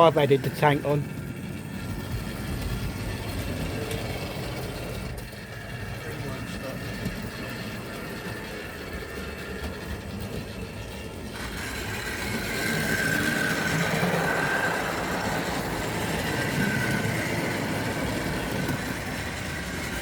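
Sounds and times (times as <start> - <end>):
model train motor whining: 0.0 - 20.0
wheels rattling on rail: 0.0 - 20.0.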